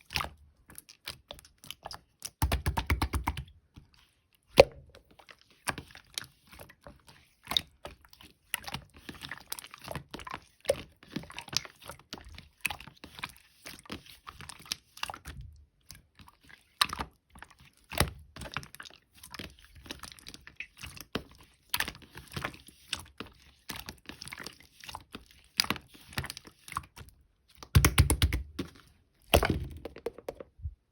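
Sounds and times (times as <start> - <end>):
slime squishing and crackling: 5.0 - 30.1.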